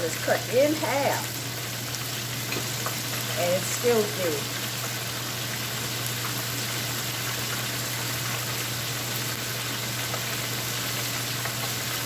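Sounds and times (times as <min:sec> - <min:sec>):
chicken deep-frying in oil: 0:00.0 - 0:12.0
range hood fan hum: 0:00.0 - 0:12.0.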